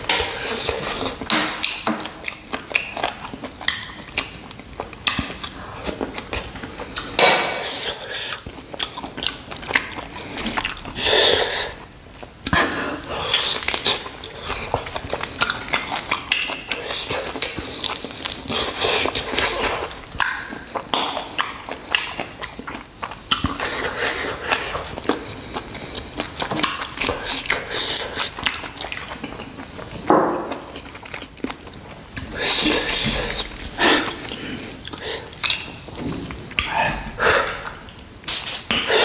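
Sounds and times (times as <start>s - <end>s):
wet chewing and slurping: 0.0s - 39.0s.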